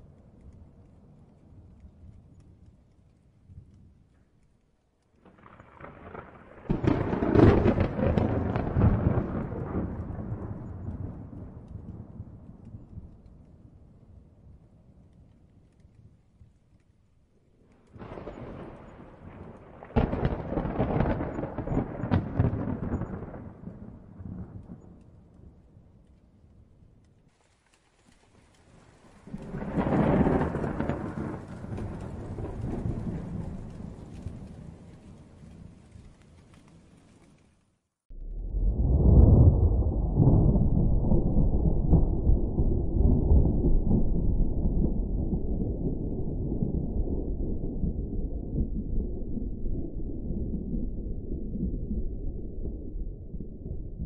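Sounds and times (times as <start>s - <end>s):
thunderclap crack and rumble: 0.0s - 54.0s.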